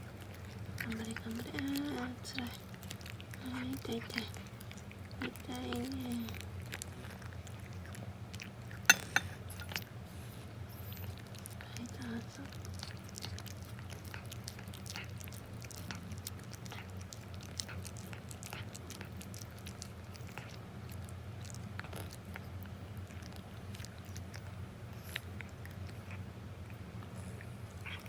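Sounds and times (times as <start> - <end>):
cat chewing: 0.0 - 28.0
low steady hum: 0.0 - 28.0.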